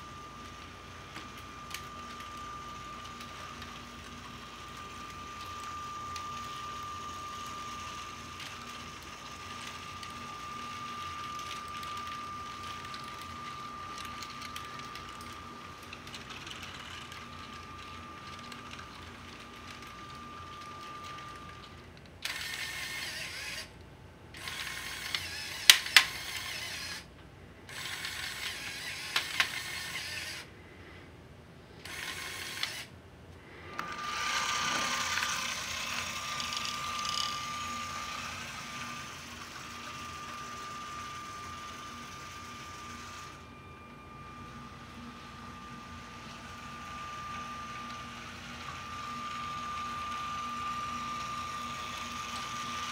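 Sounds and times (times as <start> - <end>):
toy train motor whining: 0.0 - 23.7, 24.4 - 27.1, 27.7 - 30.5, 31.8 - 32.9, 33.7 - 43.6, 44.3 - 52.9.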